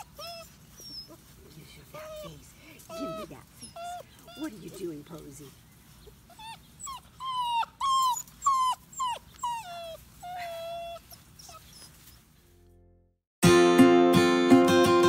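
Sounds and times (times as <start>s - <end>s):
puppies whining: 0.0s - 12.4s.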